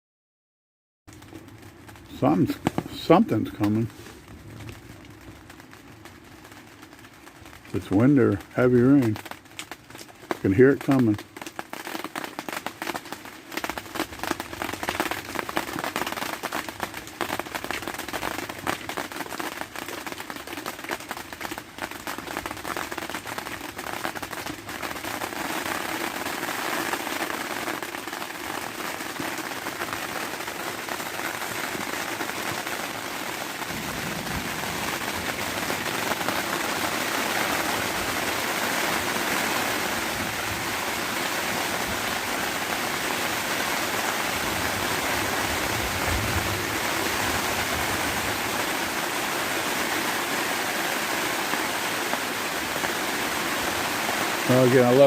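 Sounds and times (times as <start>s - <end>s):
heavy rain on a surface: 1.1s - 55.0s.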